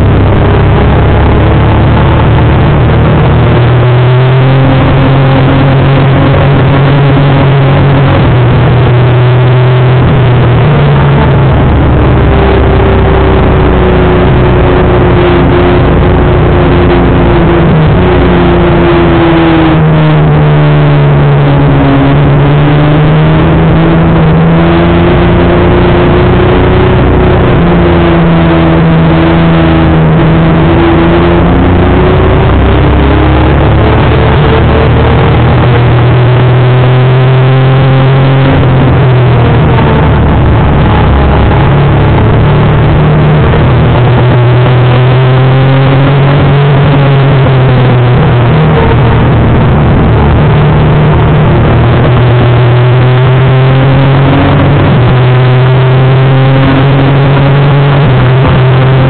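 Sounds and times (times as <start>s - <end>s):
race engine revving high: 0.0s - 59.0s.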